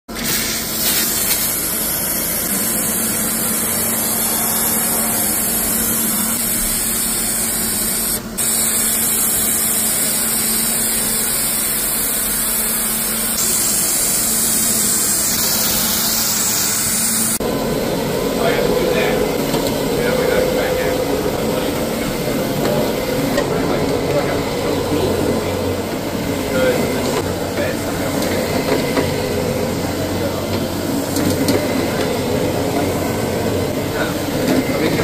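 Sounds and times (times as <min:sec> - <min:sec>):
sprayer hissing: 0:00.1 - 0:35.0
sprayer hum: 0:00.1 - 0:35.0.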